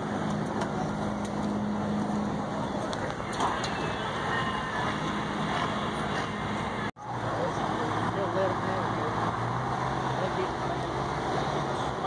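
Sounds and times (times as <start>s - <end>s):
diesel truck engines idling: 0.0s - 12.0s
open-air background noise: 0.0s - 12.0s.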